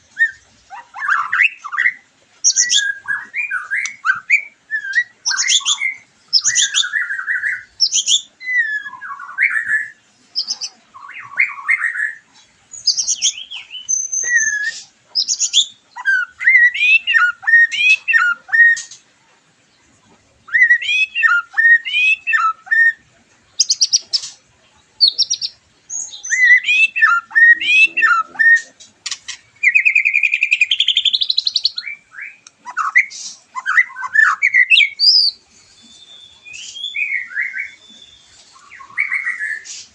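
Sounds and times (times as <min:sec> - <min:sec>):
songbird whistles and trills: 0:00.0 - 0:19.0, 0:20.3 - 0:24.4, 0:25.0 - 0:39.9.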